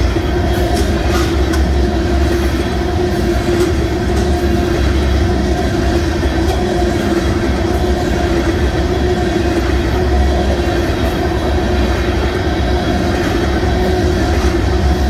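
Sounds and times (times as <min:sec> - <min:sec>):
steady low hum: 0:00.0 - 0:15.0
train wheels rumbling on rails: 0:00.0 - 0:15.0.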